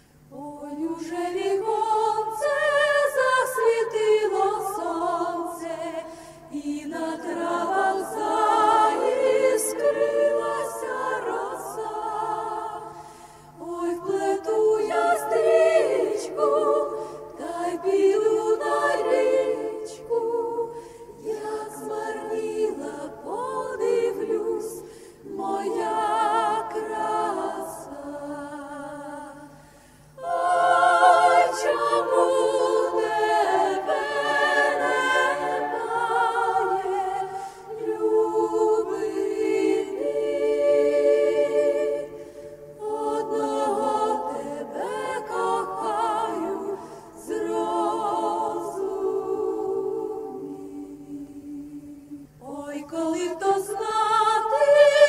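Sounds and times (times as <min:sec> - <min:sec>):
a cappella group singing in harmony: 0:00.0 - 0:55.0.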